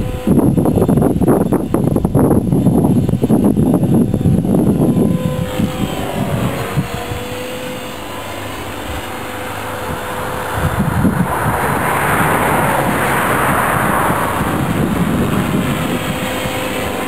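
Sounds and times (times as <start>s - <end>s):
propeller aircraft engine droning: 0.0s - 17.0s
wind buffeting microphone: 0.0s - 17.0s.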